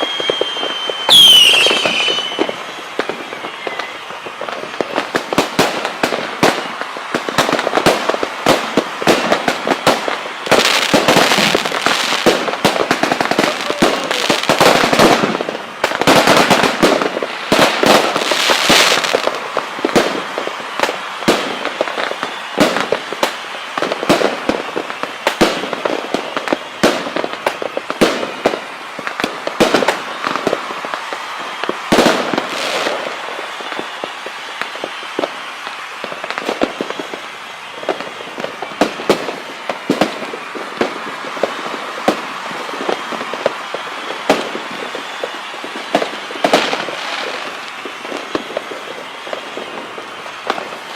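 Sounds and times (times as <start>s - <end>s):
fireworks cracking and popping: 0.0s - 50.9s.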